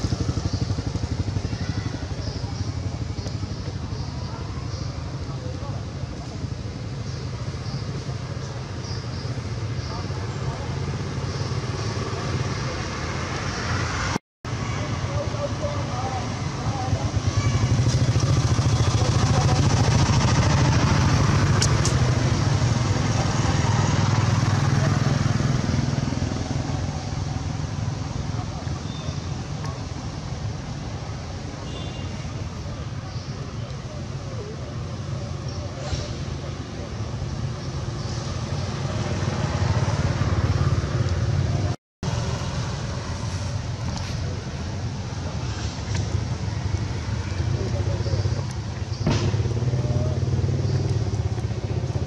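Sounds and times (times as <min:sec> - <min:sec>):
motorcycle engine running: 0:00.0 - 0:13.4, 0:15.0 - 0:33.3, 0:36.8 - 0:52.0.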